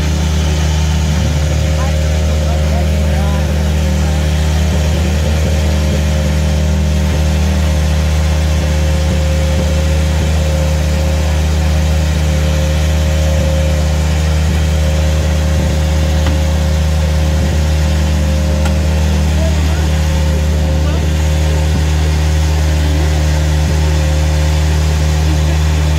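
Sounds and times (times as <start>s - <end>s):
engine idling: 0.0s - 25.9s.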